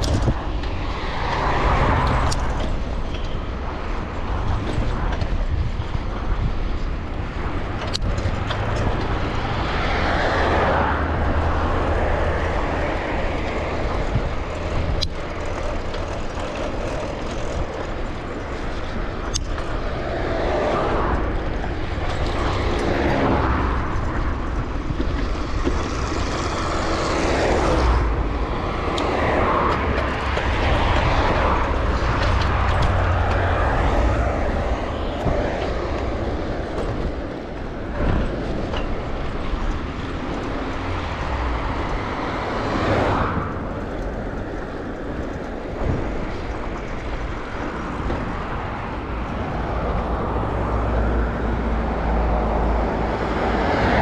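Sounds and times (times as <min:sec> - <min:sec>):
bicycle rolling noise: 0:00.0 - 0:54.0
wind rumble on microphone: 0:00.0 - 0:54.0.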